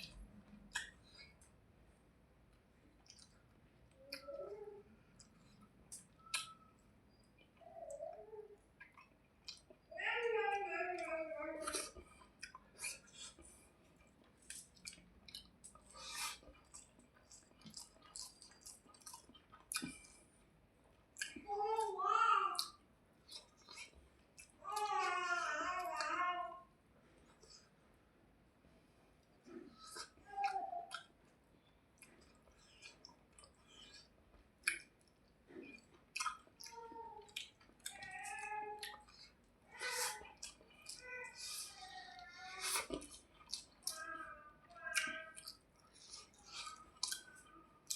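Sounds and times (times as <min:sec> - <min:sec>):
person chewing food: 0:00.0 - 0:01.7, 0:02.4 - 0:07.8, 0:08.7 - 0:09.9, 0:11.0 - 0:26.1, 0:27.1 - 0:27.9, 0:28.8 - 0:47.9.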